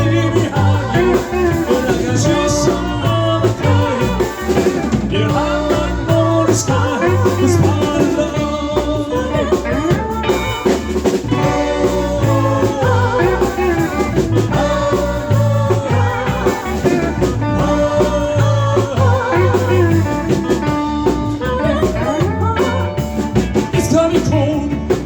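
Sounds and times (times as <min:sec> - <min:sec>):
bass line: 0:00.0 - 0:25.0
drums: 0:00.0 - 0:25.0.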